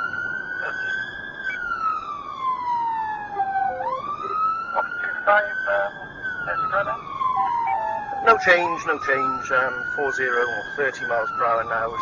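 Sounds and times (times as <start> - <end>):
police siren wailing: 0.0 - 12.0
road noise: 0.0 - 12.0.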